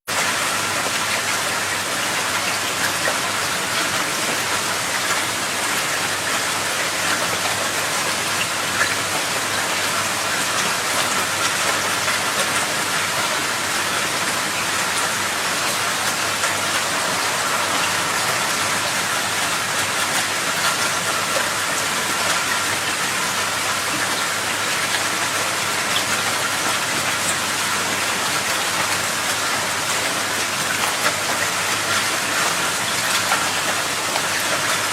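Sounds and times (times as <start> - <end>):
rushing water: 0.1 - 34.9.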